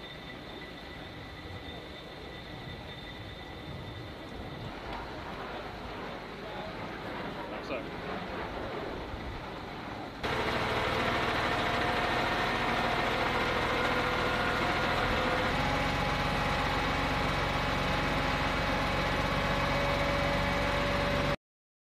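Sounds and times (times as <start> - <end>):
truck engine hum with whine: 0.0 - 21.4.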